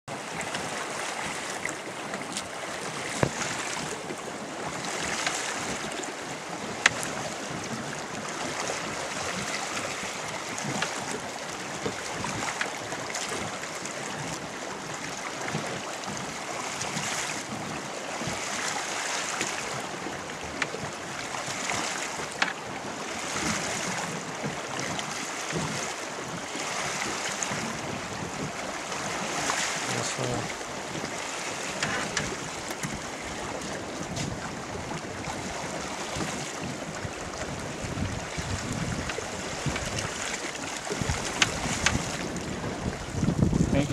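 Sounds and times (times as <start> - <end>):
water splashing against boat: 0.1 - 43.9.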